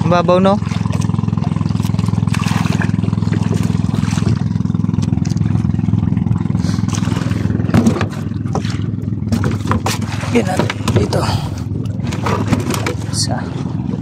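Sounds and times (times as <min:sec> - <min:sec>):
small boat engine running: 0:00.0 - 0:14.0.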